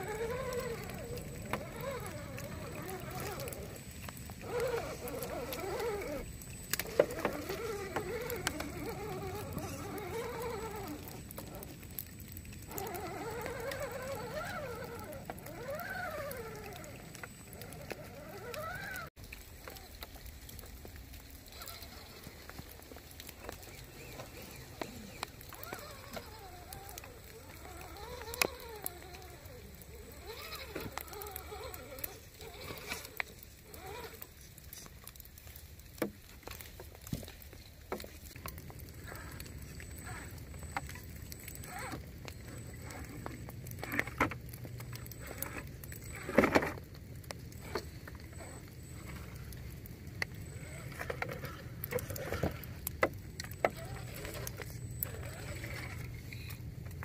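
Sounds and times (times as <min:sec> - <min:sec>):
clicks and knocks on rocks: 0:00.0 - 0:57.0
electric motor and gears whining: 0:00.0 - 0:57.0.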